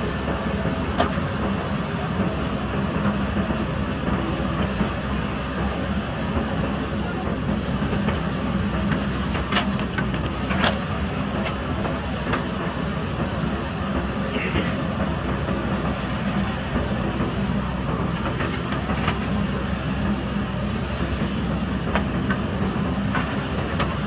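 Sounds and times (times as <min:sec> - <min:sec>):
diesel engine running under load: 0:00.0 - 0:24.0.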